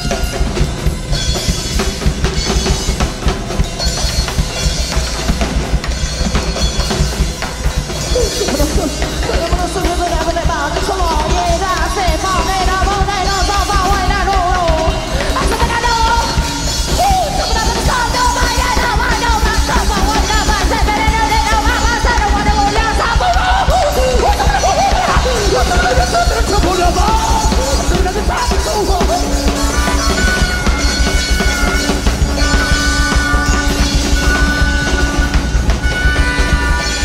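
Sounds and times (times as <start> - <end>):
drum kit beat: 0.0 - 37.0
live band playing: 0.0 - 37.0.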